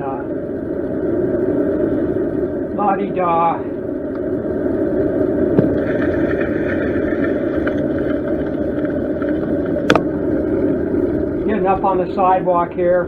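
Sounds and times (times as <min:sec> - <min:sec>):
muffled bicycle riding rumble: 0:00.0 - 0:13.0.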